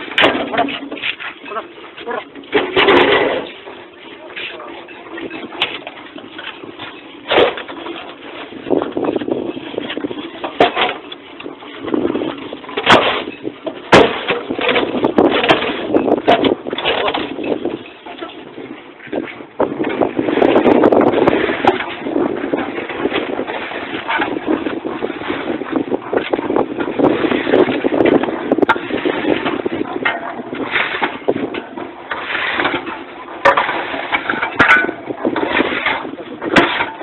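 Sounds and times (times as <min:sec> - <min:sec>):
block making machine clattering: 0:00.0 - 0:37.0.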